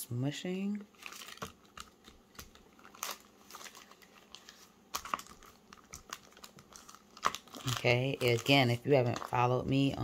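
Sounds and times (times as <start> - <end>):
plastic sheet crinkling: 0.8 - 10.0.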